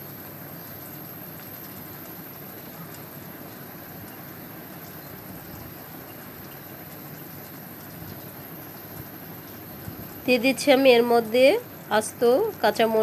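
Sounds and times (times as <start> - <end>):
curry simmering in a pot: 0.0 - 13.0.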